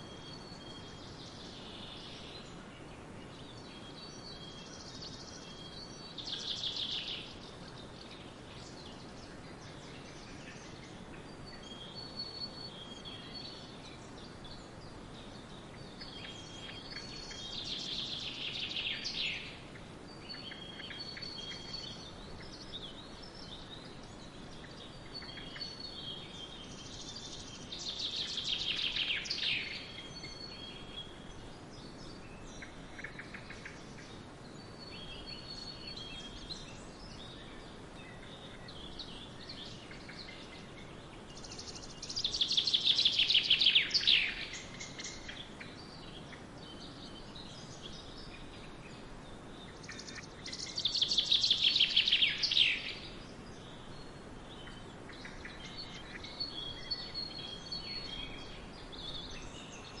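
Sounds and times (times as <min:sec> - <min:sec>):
faint bird chirps: 0:00.0 - 1:00.0
songbird song of rapid notes: 0:00.0 - 1:00.0
steady background hiss: 0:00.0 - 1:00.0.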